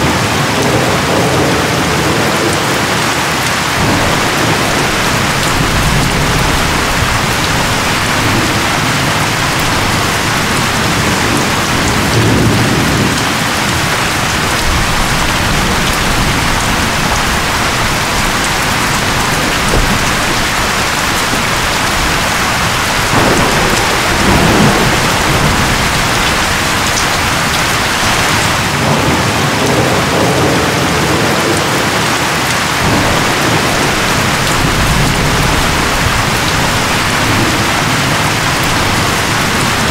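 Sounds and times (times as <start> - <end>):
heavy rain: 0.0 - 39.9
low thunder rumbles: 0.0 - 39.9
strong wind: 0.0 - 39.9.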